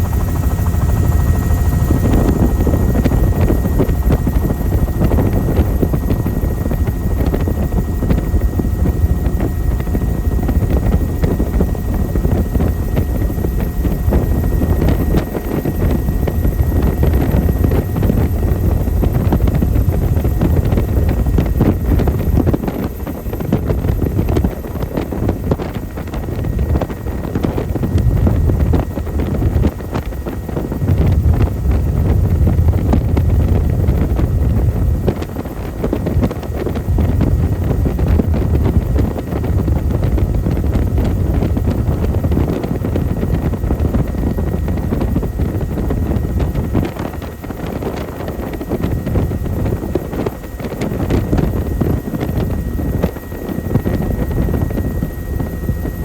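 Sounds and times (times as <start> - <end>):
faint steady whine: 0.0 - 56.0
helicopter rotor and engine rumble: 0.0 - 56.0
wind buffeting microphone: 0.0 - 56.0.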